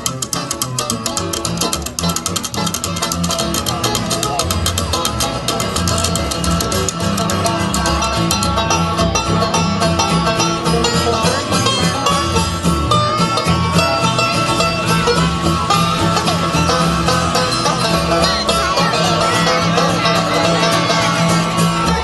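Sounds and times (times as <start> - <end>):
bluegrass music with banjo: 0.0 - 22.0.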